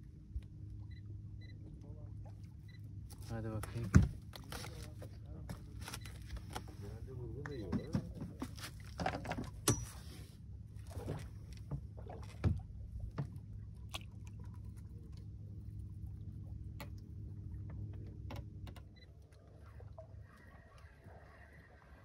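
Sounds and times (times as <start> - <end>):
boat engine rumble: 0.0 - 22.0.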